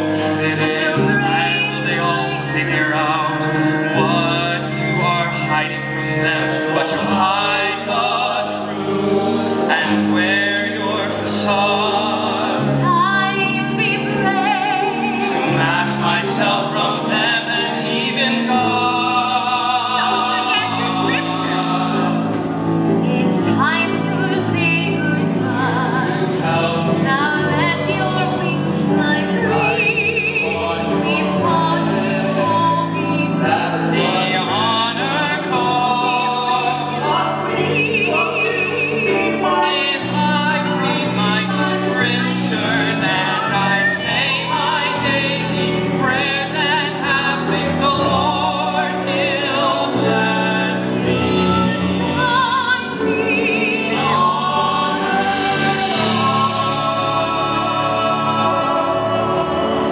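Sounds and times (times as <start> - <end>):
woman and men singing: 0.0 - 8.8, 9.6 - 59.9
small band playing: 0.0 - 59.9.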